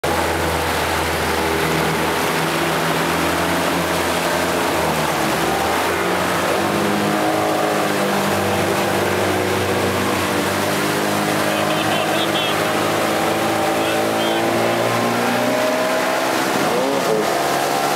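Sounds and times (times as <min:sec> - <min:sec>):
outboard motor running hard: 0:00.0 - 0:17.9.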